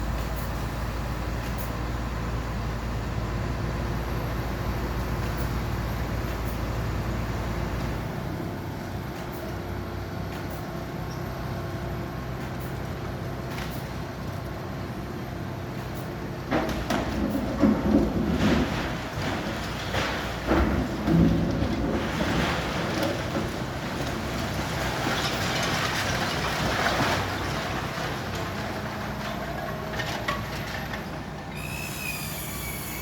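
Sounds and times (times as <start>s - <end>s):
heavy machine engine running: 0.0s - 33.0s.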